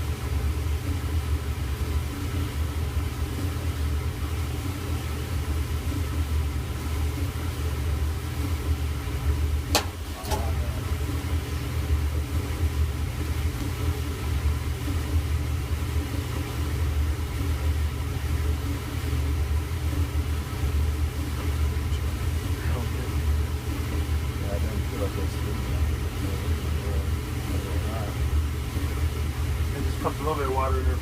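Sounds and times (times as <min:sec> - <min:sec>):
clothes dryer rumble and hum: 0:00.0 - 0:31.0.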